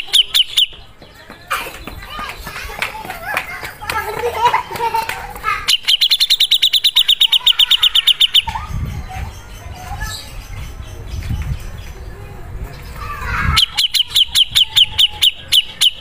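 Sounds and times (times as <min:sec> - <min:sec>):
bird singing: 0:00.0 - 0:02.6, 0:05.6 - 0:16.0.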